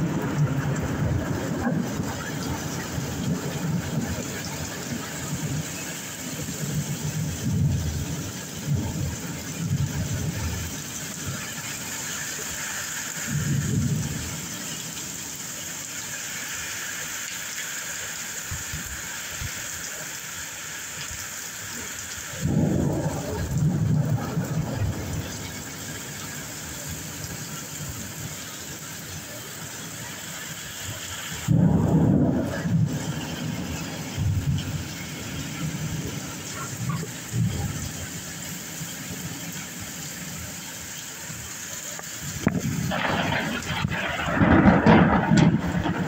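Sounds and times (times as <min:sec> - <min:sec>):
thunder rumbling: 0:00.0 - 0:15.2, 0:22.3 - 0:40.6, 0:42.0 - 0:46.0
steady rain: 0:00.0 - 0:46.0.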